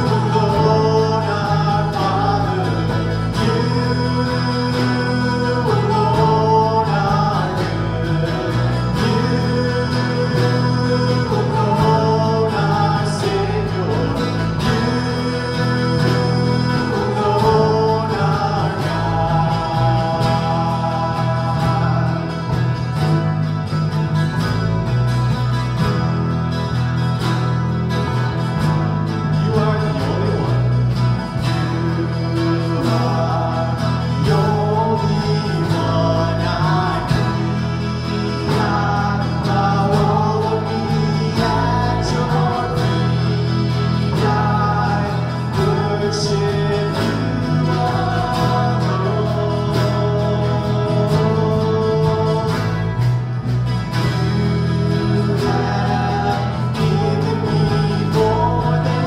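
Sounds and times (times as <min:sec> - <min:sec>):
people singing together: 0:00.0 - 0:23.9, 0:27.6 - 0:59.0
electric bass guitar: 0:00.0 - 0:59.0
strummed acoustic guitar: 0:00.0 - 0:59.0.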